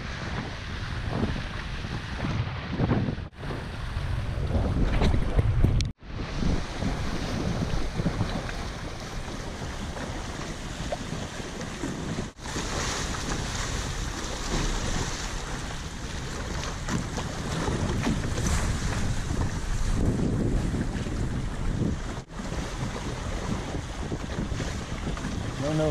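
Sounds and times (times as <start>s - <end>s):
choppy water slapping hulls: 0.0s - 25.9s
wind buffeting microphone: 0.0s - 25.9s.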